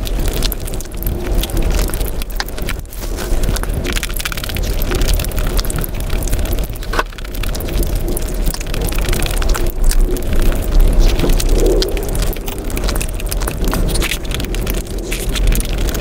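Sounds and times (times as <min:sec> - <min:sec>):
chewing and lip-smacking: 0:00.3 - 0:16.0.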